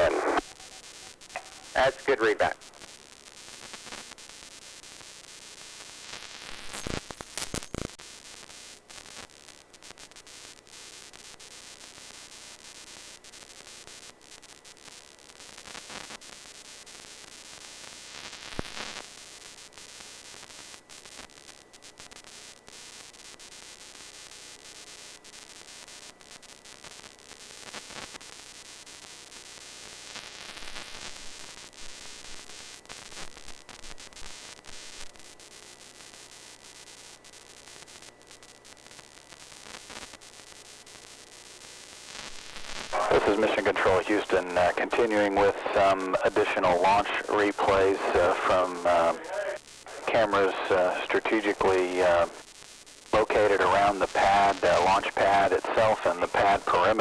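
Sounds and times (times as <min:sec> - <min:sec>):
static hiss: 0:00.0 - 0:57.0.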